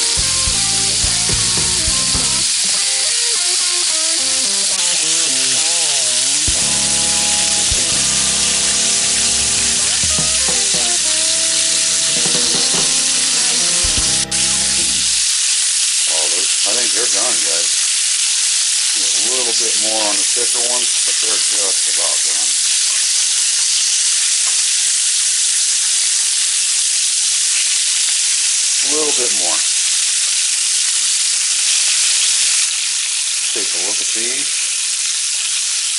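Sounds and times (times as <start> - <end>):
steaks sizzling on a grill pan: 0.0 - 35.9.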